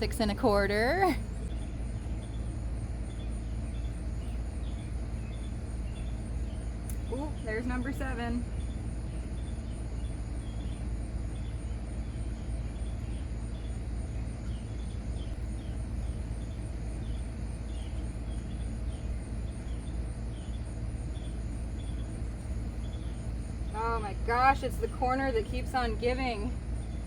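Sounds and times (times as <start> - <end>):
insects trilling: 0.0 - 27.0
steady low rumble: 0.0 - 27.0.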